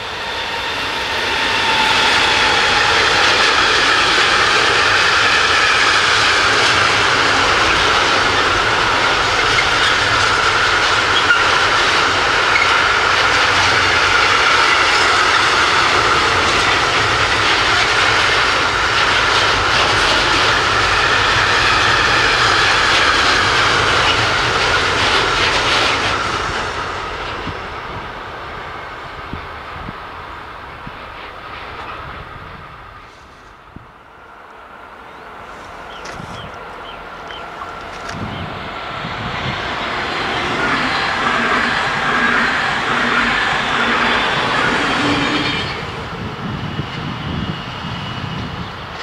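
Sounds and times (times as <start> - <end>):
freight train wheels on rails: 0.0 - 49.0.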